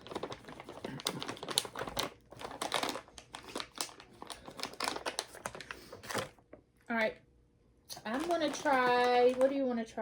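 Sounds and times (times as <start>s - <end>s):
plastic packaging crinkling: 0.0s - 6.6s, 7.9s - 10.0s.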